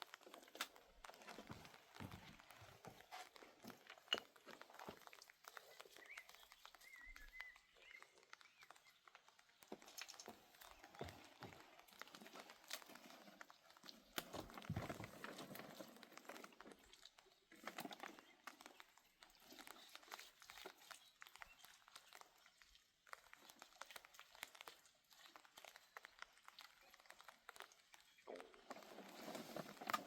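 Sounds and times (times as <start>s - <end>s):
rustling and crackling: 0.0s - 30.0s
small clicks and knocks: 0.0s - 30.0s.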